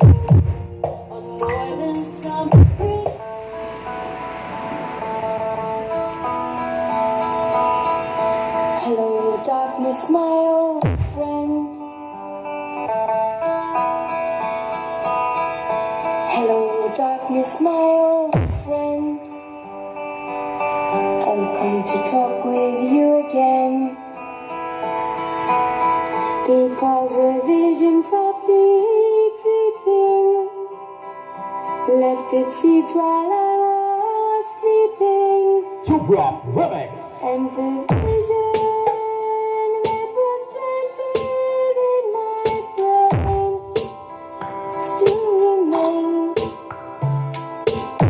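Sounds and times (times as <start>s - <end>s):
music over sound system: 0.0s - 48.0s
plucked guitar-like melody: 0.0s - 48.0s.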